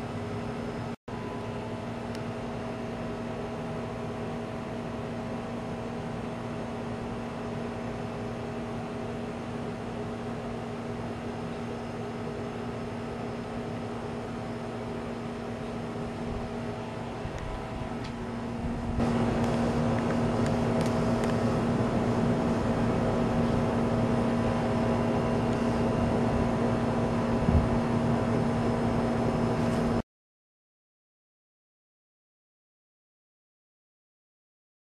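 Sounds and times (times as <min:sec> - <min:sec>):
machine hum with held tones: 0:00.0 - 0:30.0.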